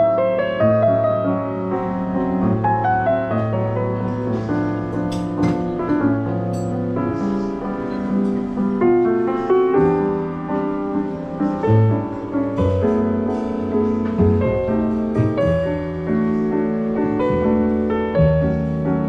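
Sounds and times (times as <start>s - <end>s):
double bass notes: 0.0s - 19.0s
grand piano chords and melody: 0.0s - 19.0s.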